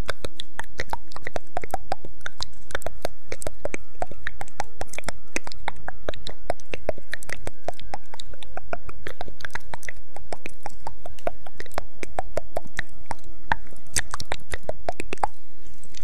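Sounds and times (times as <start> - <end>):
rapid clicks and taps on microphone: 0.0 - 16.0.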